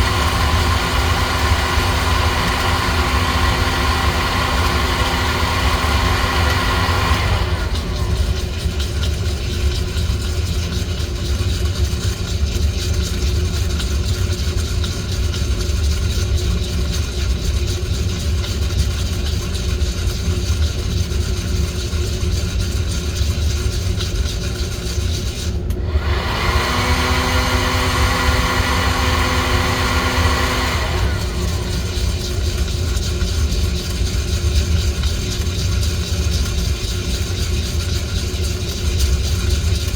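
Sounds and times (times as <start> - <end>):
coffee roaster motor and air noise: 0.0 - 39.9.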